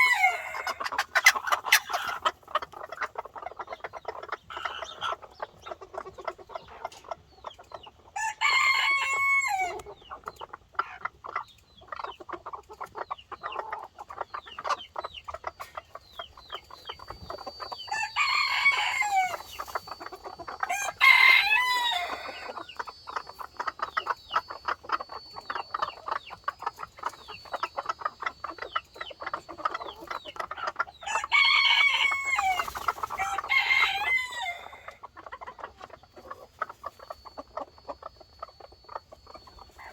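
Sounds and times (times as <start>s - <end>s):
fowl clucking: 0.0s - 39.9s.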